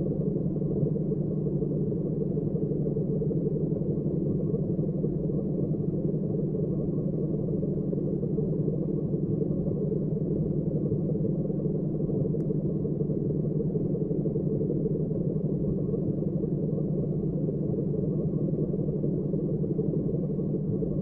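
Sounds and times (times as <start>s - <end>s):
low rumbling hum: 0.0s - 21.0s.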